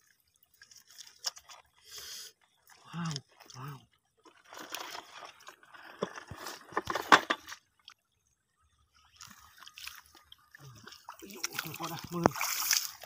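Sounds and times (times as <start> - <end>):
muddy water sloshing and splashing: 0.0 - 13.0.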